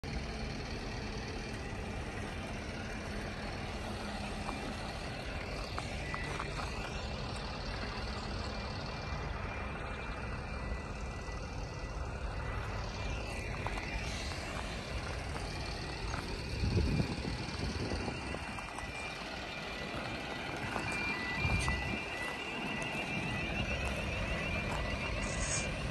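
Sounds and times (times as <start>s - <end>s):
heavy vehicle engines rumbling: 0.0s - 25.9s.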